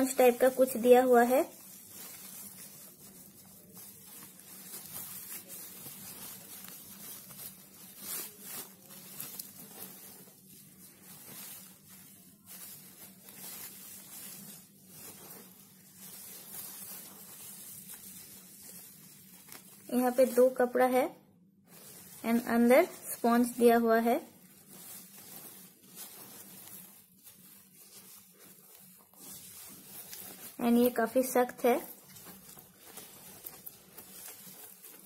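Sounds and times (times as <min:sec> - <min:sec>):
stiff fabric bag rustling: 0:00.0 - 0:20.8, 0:21.7 - 0:35.0.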